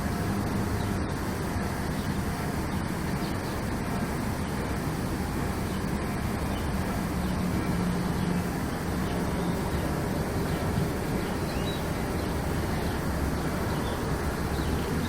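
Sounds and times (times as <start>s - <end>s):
constant rumbling noise: 0.0s - 15.0s
low droning hum: 0.0s - 15.0s.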